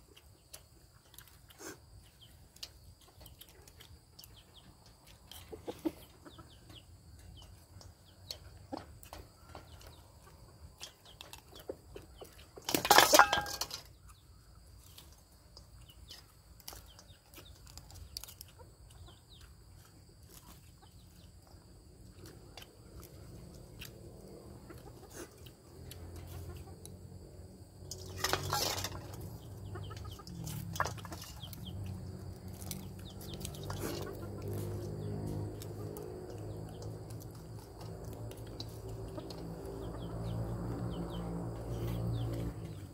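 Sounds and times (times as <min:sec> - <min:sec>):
chickens clucking softly: 0:00.0 - 0:12.6, 0:15.8 - 0:27.6, 0:28.2 - 0:41.2
chickens calling loudly: 0:00.0 - 0:15.1, 0:15.8 - 0:42.9.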